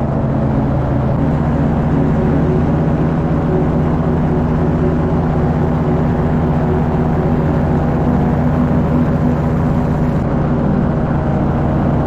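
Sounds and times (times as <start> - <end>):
paramotor engine droning: 0.0 - 12.0.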